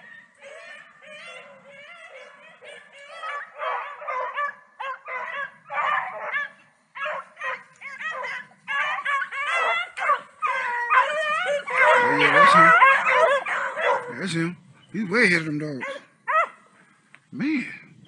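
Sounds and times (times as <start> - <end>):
beagles baying: 0.0 - 17.0.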